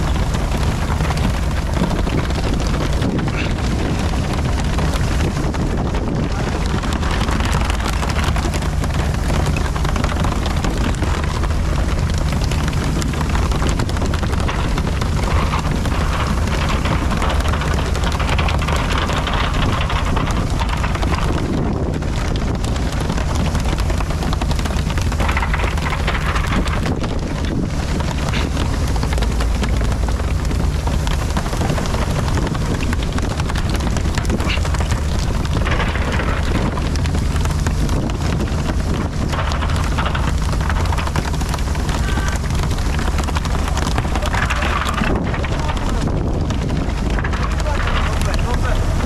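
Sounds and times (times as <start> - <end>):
boat engine running: 0.0 - 49.0
water spraying and splashing: 0.0 - 49.0
wind on microphone: 0.0 - 49.0.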